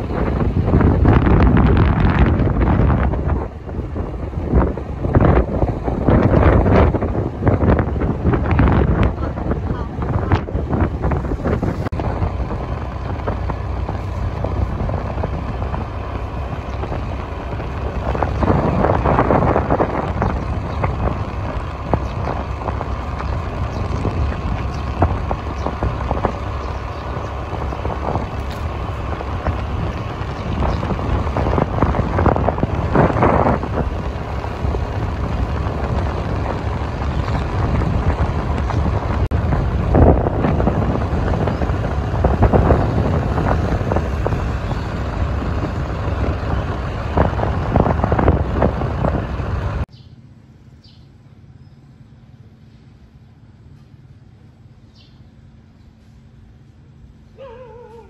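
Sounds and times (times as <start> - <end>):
wind rushing over microphone: 0.0 - 50.0
motorbike engine and road rumble: 0.0 - 58.0.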